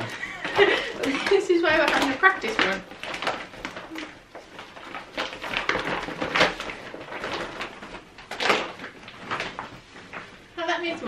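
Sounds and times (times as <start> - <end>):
plastic cover crinkling and rustling: 0.0 - 11.0.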